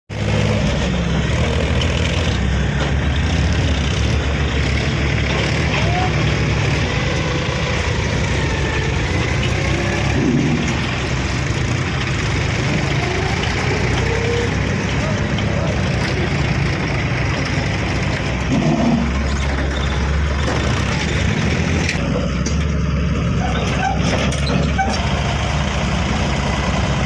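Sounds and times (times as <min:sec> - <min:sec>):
diesel engine running: 0:00.1 - 0:27.0.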